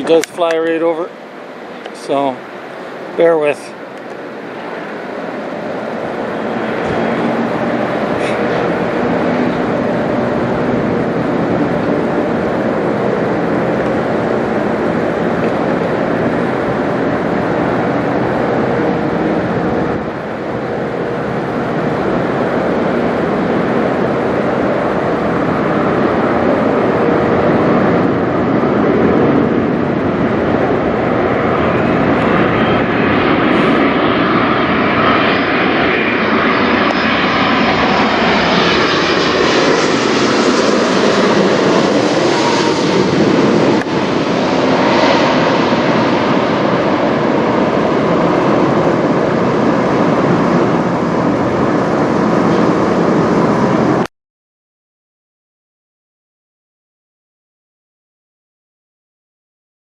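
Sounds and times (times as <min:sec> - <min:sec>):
jet engines passing overhead: 0:00.0 - 0:54.1
wind on microphone: 0:04.1 - 0:54.1.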